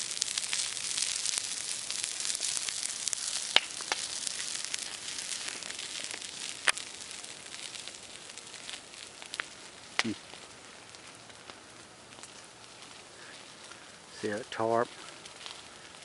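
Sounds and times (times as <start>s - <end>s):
fire crackling pops: 0.0s - 16.0s
wood fire hissing: 0.0s - 16.0s.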